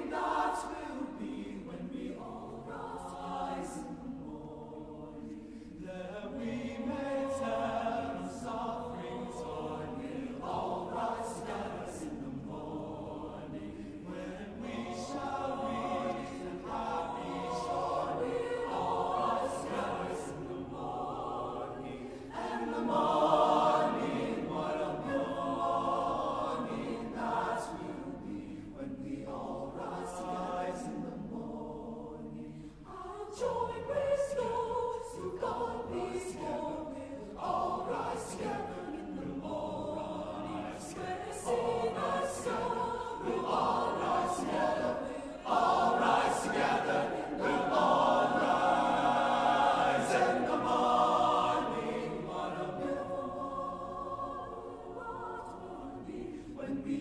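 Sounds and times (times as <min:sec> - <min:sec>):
choir singing sustained chords: 0:00.0 - 0:57.0.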